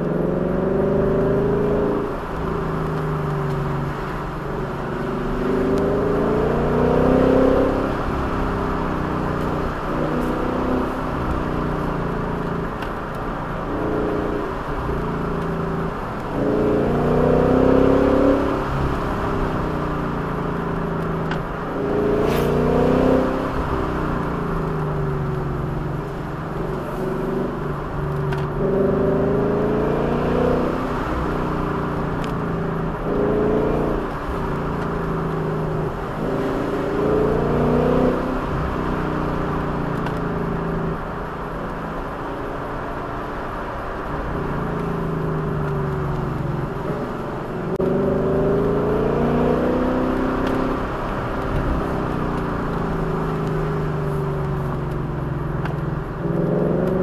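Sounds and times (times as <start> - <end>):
road noise rushing: 0.0 - 57.0.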